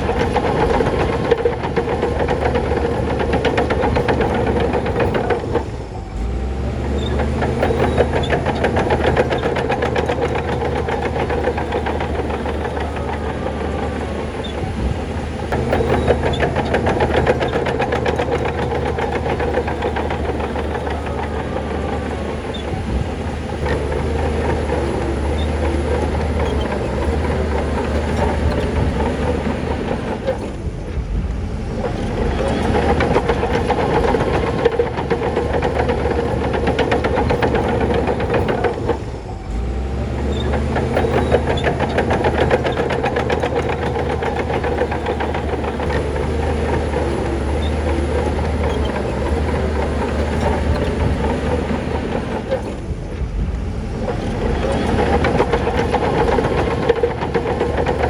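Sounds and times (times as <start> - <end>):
bulldozer diesel engine: 0.0 - 58.0
metallic clatter of steel tracks: 0.0 - 58.0.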